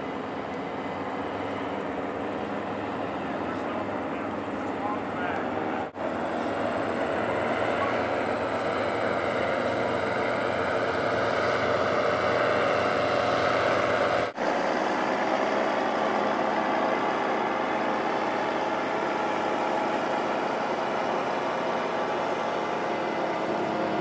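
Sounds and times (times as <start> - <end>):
paramotor engines droning: 0.0 - 24.0.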